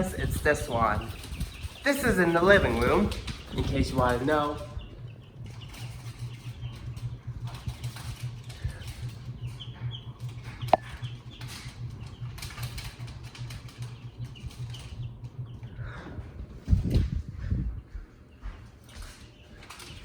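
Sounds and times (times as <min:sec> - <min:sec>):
ceiling fan humming: 0:00.0 - 0:20.0
chicks peeping: 0:00.0 - 0:20.0.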